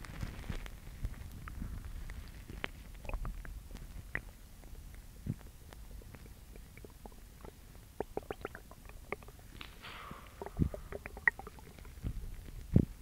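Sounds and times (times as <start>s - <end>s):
stomach growling and gurgling: 0.0s - 13.0s.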